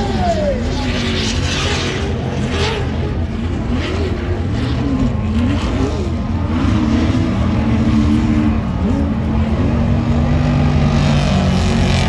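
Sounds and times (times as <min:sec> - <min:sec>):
race vehicle engines revving: 0:00.0 - 0:12.0.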